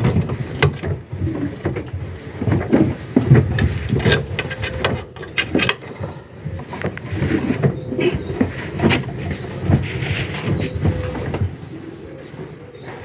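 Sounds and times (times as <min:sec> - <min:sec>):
knocks clicks and scraping: 0:00.0 - 0:11.6.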